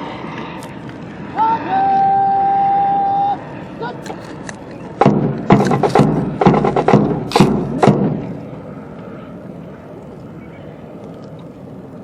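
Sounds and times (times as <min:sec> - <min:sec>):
outdoor crowd background: 0:00.0 - 0:12.0.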